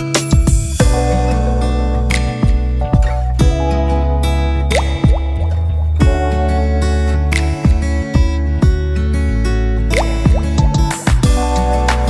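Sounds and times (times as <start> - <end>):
plucked guitar instrumental: 0.0 - 12.0.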